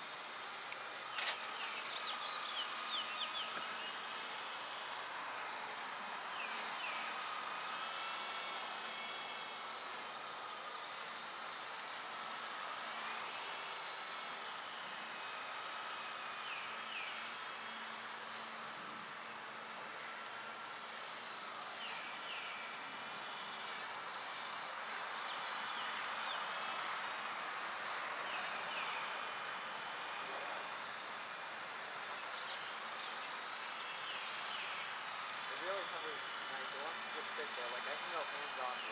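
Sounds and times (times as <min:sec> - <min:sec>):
crickets chirping: 0:00.0 - 0:38.9
small electric helicopter whine: 0:00.0 - 0:38.9.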